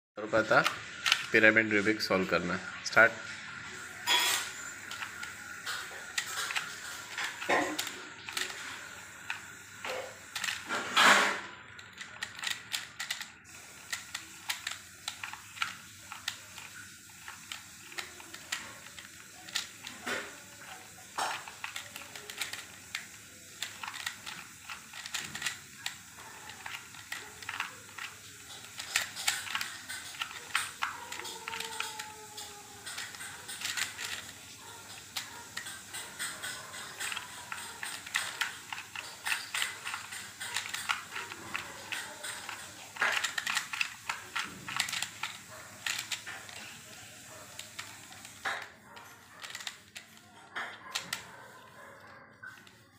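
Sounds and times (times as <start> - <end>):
plastic puzzle clicking: 0.3 - 52.9.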